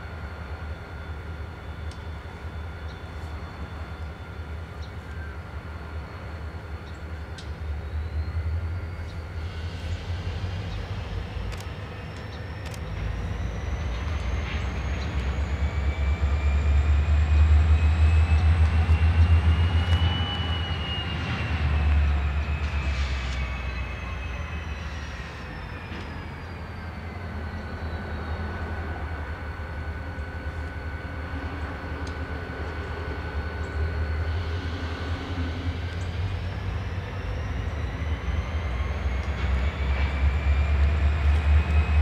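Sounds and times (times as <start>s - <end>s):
diesel locomotive engine rumble: 0.0s - 42.0s
locomotive whine: 0.0s - 42.0s.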